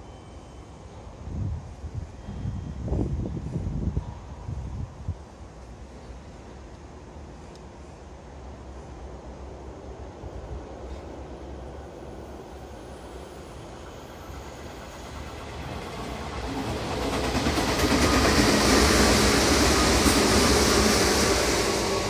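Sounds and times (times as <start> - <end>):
steady train hum: 0.0 - 22.0
train wheels rumbling on rail: 1.0 - 22.0.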